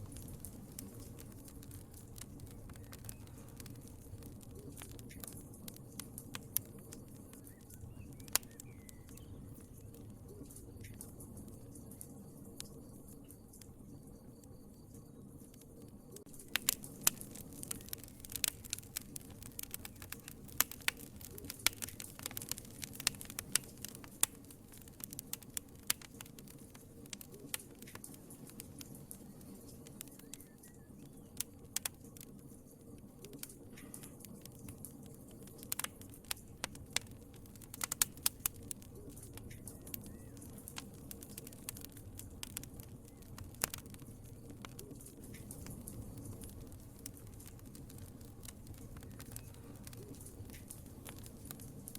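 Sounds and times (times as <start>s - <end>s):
fire flame rushing: 0.0s - 11.1s, 16.2s - 30.6s, 31.3s - 51.9s
fire crackling and popping: 0.0s - 51.9s.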